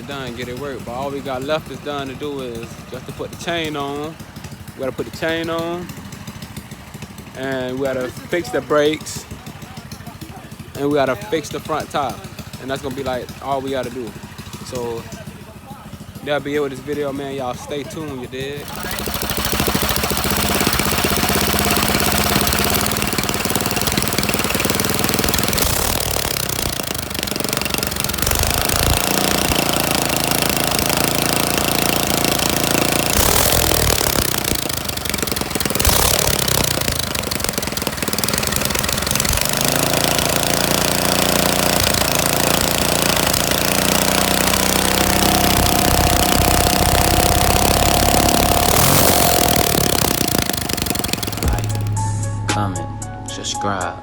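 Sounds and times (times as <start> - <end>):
go-kart engine running: 0.0 - 52.2.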